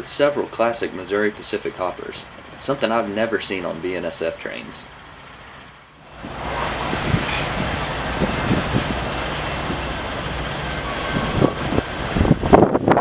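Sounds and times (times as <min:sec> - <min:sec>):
train cars clanking: 0:00.0 - 0:13.0
train wheels rumbling on rail: 0:00.0 - 0:13.0.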